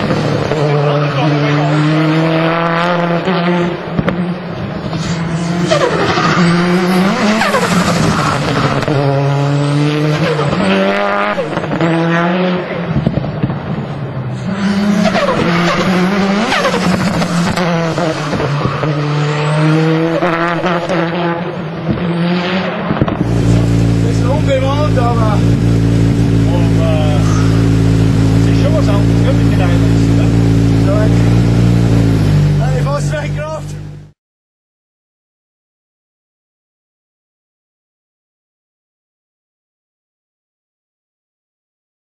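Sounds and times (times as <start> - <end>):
race car engine revving: 0.0 - 34.2.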